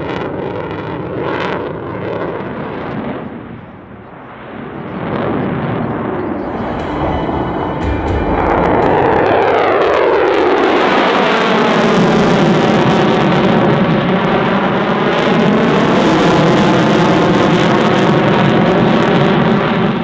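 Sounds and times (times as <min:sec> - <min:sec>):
jet engine flying past: 0:00.0 - 0:20.0.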